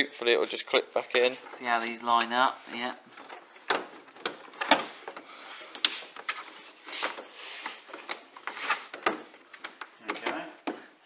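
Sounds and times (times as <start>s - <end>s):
plastic scraping and rubbing: 0.5s - 10.4s.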